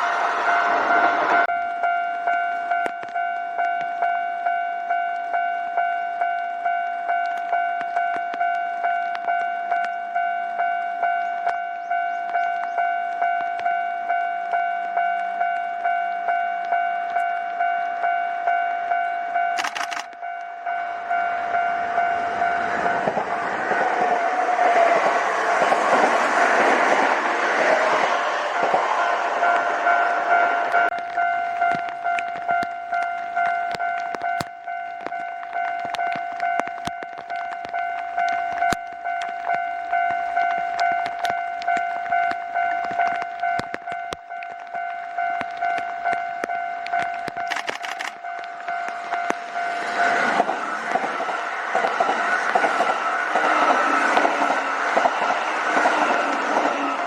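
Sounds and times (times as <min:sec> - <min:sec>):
level-crossing bell ringing: 0:00.0 - 0:57.0
train passing: 0:00.0 - 0:57.0.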